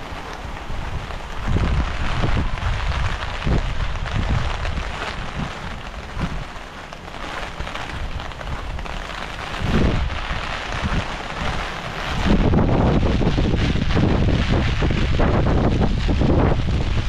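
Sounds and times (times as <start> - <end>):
heavy rain falling: 0.0 - 17.0
wind buffeting microphone: 0.0 - 17.0.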